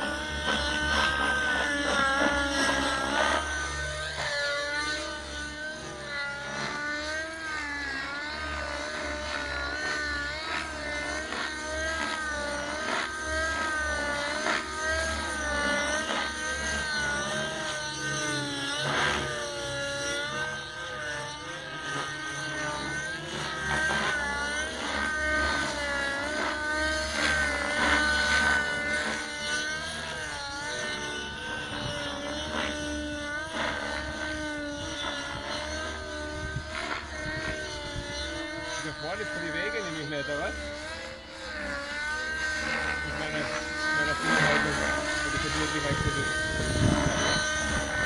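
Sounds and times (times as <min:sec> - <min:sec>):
rc helicopter engine whine: 0:00.0 - 0:48.0.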